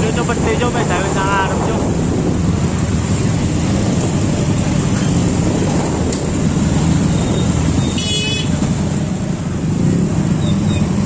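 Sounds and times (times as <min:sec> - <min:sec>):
scooter engines rumbling: 0:00.0 - 0:11.0.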